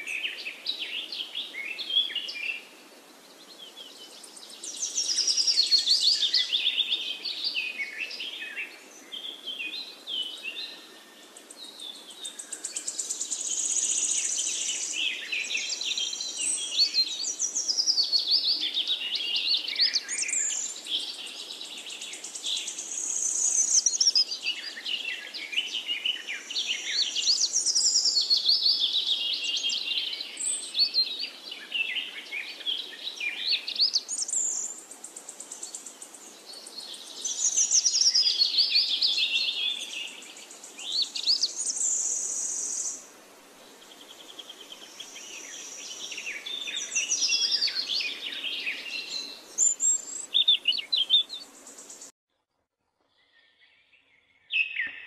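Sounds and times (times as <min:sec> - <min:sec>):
small birds chirping: 0:00.0 - 0:52.2, 0:53.1 - 0:55.0.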